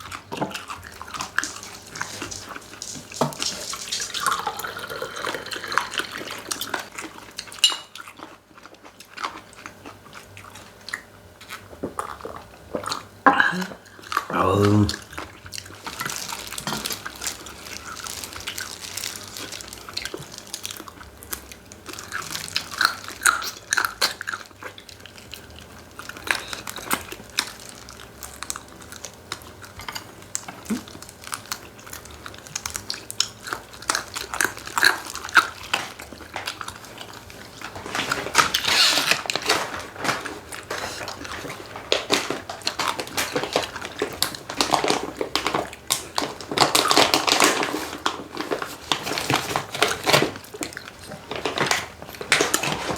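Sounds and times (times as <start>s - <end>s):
chewing and crunching chicken: 0.0s - 52.9s.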